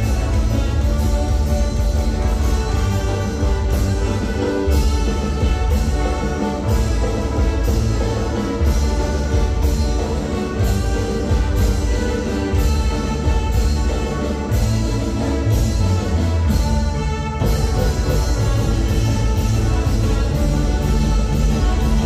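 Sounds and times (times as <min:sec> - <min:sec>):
banda dance music with brass: 0:00.0 - 0:22.0.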